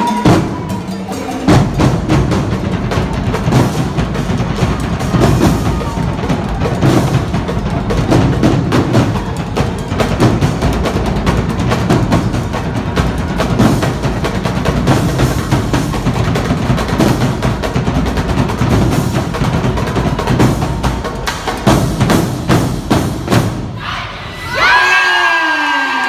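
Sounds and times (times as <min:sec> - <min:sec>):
rapid snare drum: 0:00.0 - 0:23.8.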